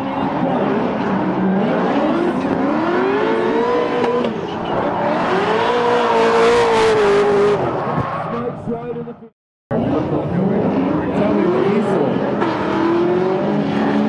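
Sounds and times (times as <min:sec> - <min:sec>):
car engines at high revs: 0:00.0 - 0:07.9, 0:09.7 - 0:14.0.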